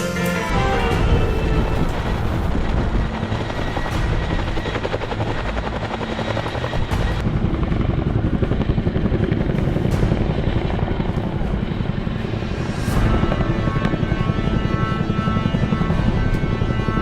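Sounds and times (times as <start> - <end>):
helicopter rotors chopping: 0.5 - 17.0.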